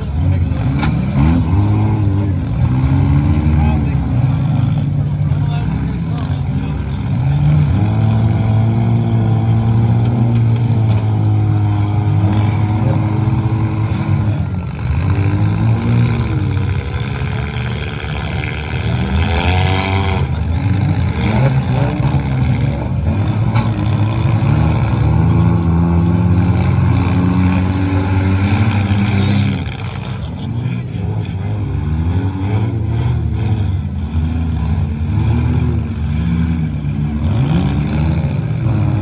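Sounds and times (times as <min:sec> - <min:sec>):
car engines revving hard: 0:00.0 - 0:39.0.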